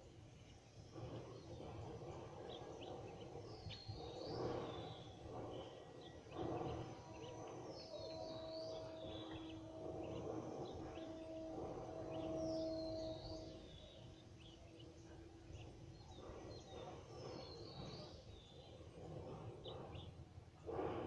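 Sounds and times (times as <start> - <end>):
birds chirping faintly: 0.0 - 21.0
steady hum: 0.0 - 21.0.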